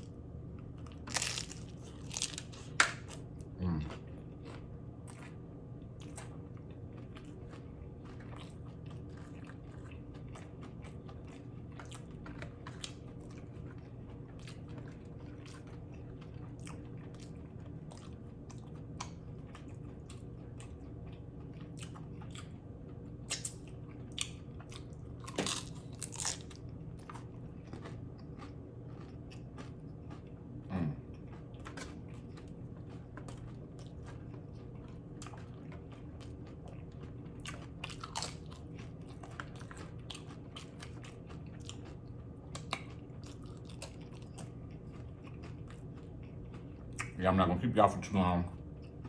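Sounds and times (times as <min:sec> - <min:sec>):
chewing and crunching chips: 0:00.0 - 0:49.0.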